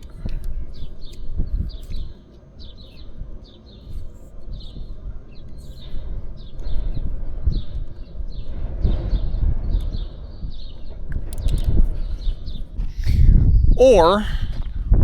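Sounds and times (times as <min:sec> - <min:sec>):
small birds chirping: 0:00.0 - 0:14.3.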